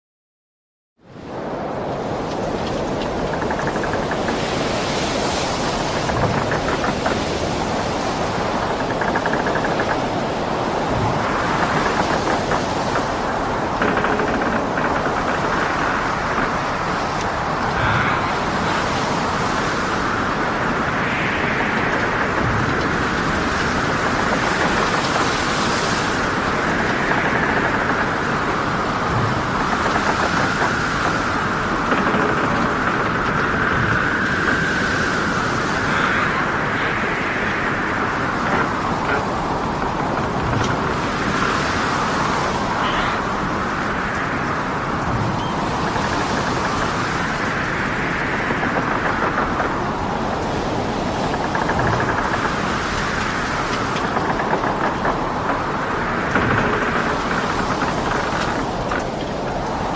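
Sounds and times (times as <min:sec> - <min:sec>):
rushing wind and water: 0:01.0 - 0:59.9.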